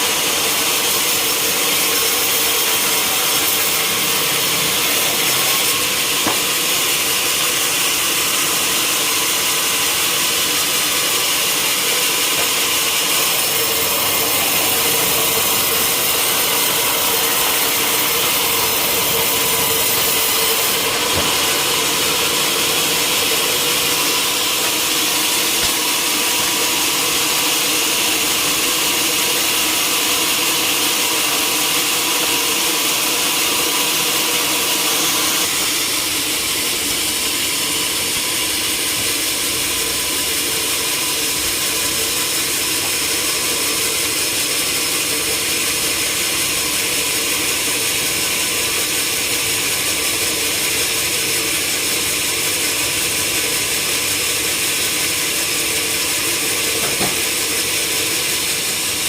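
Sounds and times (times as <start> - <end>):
sawmill saw cutting log: 0.0 - 59.0.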